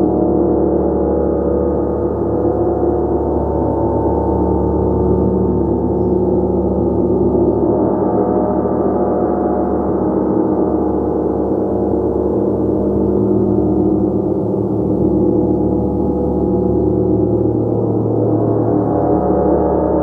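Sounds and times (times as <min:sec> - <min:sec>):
sustained gong wash: 0:00.0 - 0:20.0.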